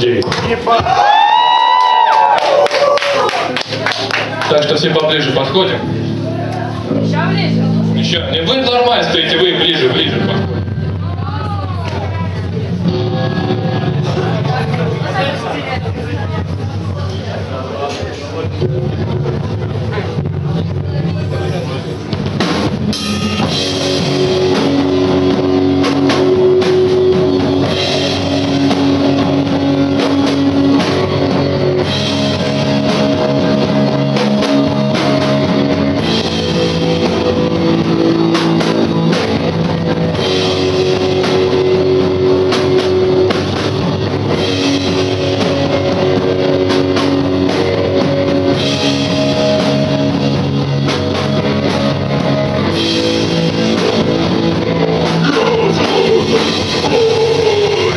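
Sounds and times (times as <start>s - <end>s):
electric guitar chords: 0.0s - 17.0s, 18.4s - 57.9s
drum kit: 0.0s - 57.9s.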